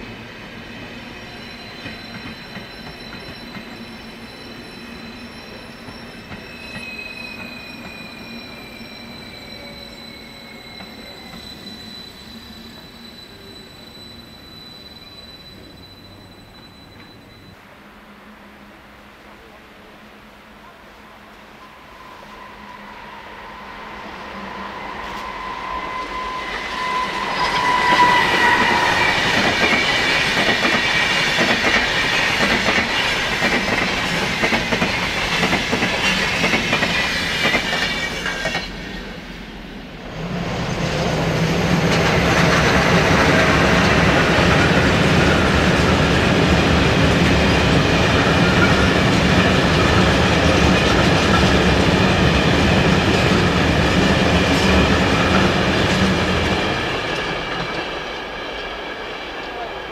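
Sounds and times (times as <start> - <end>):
freight train wheels rumbling: 0.0 - 17.5, 21.3 - 59.9
electric train passing at speed: 0.0 - 59.9.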